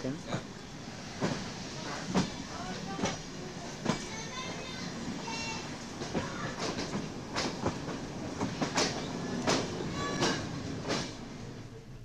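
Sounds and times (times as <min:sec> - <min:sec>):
train running gear rumble: 0:00.0 - 0:12.0
wheels clacking over rail joints: 0:00.3 - 0:11.2.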